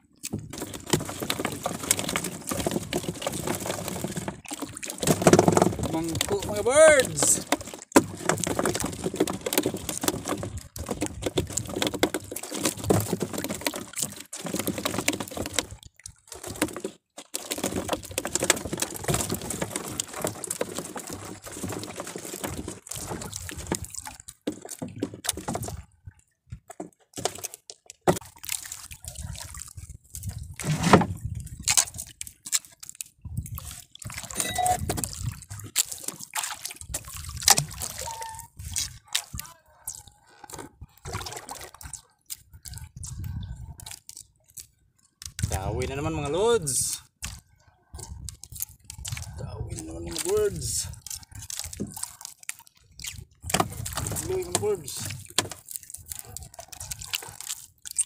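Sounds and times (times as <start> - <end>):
water splashing and dripping: 0.0 - 58.0.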